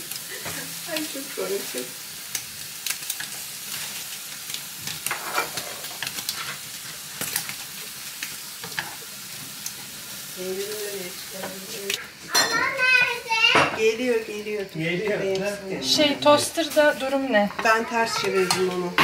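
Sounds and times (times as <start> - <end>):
food sizzling in frying: 0.0 - 19.0.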